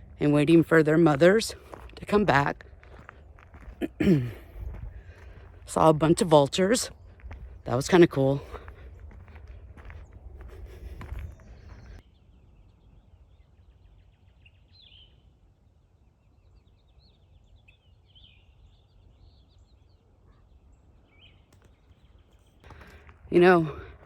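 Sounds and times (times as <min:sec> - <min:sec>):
faint outdoor background noise: 0:00.0 - 0:24.0
wild birds chirping: 0:00.0 - 0:24.0.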